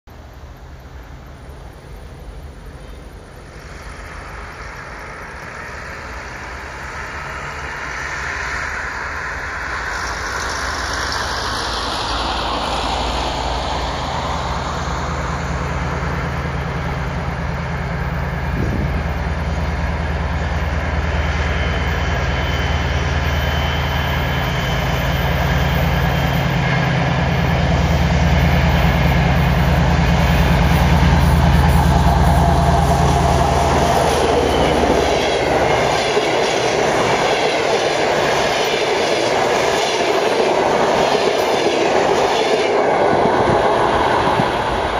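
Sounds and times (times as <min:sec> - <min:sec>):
diesel locomotive engine running: 0:00.1 - 0:44.9.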